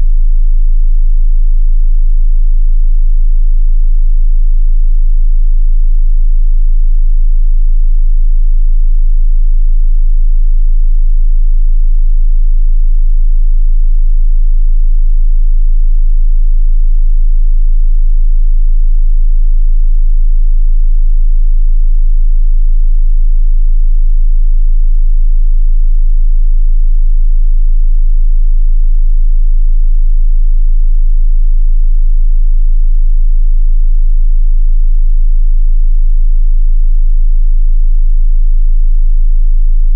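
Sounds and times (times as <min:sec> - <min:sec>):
deep sub-bass sine tone: 0:00.0 - 0:39.9.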